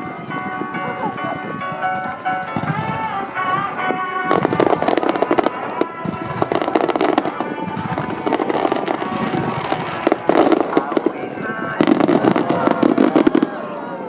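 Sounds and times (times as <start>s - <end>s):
fireworks cracking and crackling: 0.0s - 14.0s
music: 0.0s - 14.0s.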